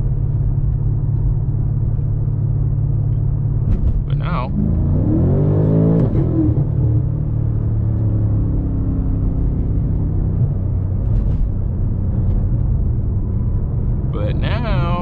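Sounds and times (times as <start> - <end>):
car engine revving: 3.0 - 15.0.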